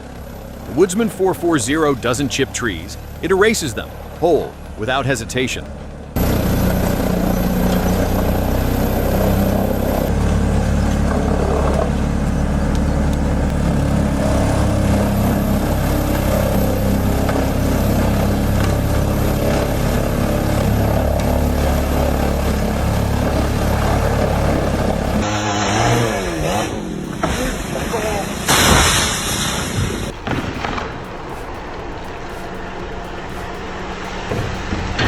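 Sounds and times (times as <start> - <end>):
wood chipper diesel engine: 0.0 - 35.0.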